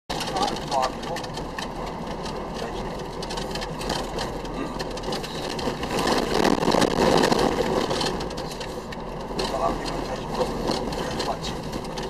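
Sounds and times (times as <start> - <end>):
vehicle engine and road noise: 0.1 - 12.0.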